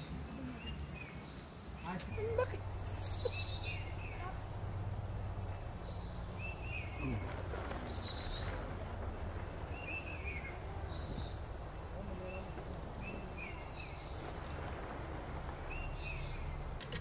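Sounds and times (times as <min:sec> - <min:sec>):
low background rumble: 0:00.0 - 0:17.0
small birds chirping: 0:00.0 - 0:17.0.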